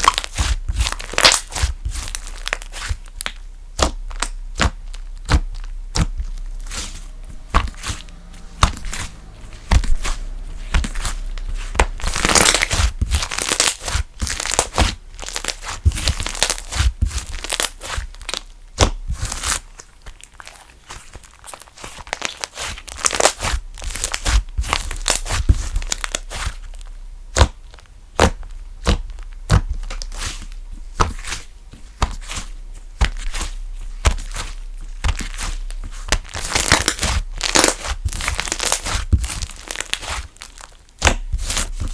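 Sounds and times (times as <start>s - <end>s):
slime clicking and crackling: 0.0s - 41.9s.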